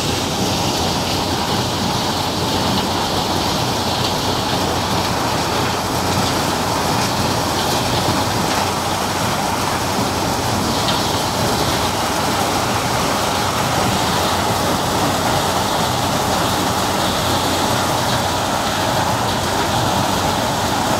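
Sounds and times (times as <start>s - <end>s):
thresher machinery running: 0.0s - 20.9s.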